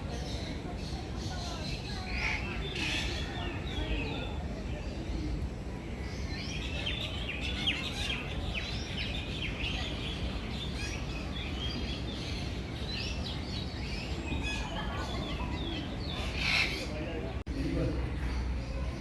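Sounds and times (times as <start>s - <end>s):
flock of birds chirping: 0.0s - 19.0s
low background noise: 0.0s - 19.0s.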